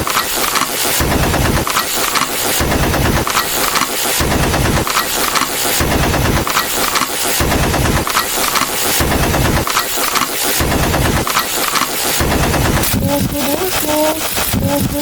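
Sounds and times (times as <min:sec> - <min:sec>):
harsh rapid crackling noise: 0:00.0 - 0:15.0.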